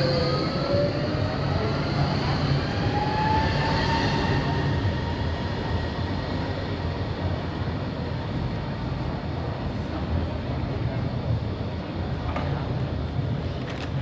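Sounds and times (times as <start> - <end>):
rail vehicle rumbling past: 0.0 - 13.5.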